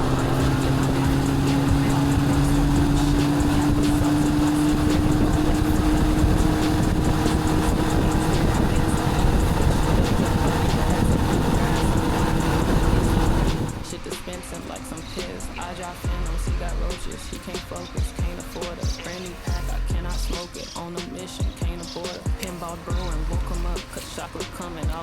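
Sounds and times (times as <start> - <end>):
wind rushing: 0.0 - 20.5
engine droning at speed: 0.0 - 25.0.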